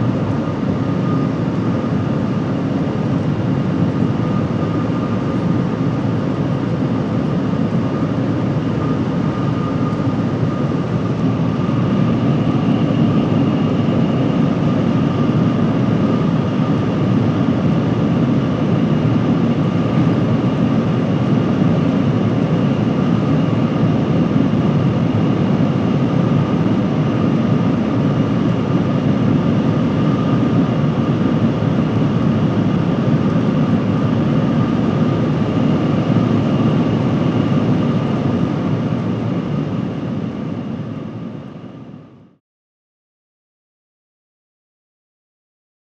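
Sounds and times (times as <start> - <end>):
loud low train cabin noise: 0.0 - 42.2.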